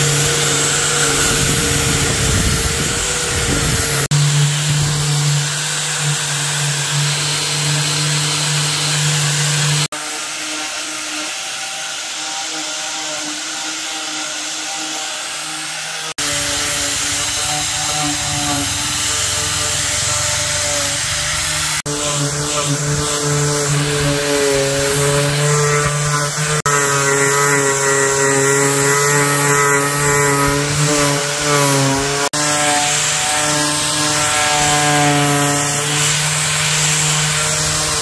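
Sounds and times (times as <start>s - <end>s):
electric power tools running: 0.0s - 38.0s.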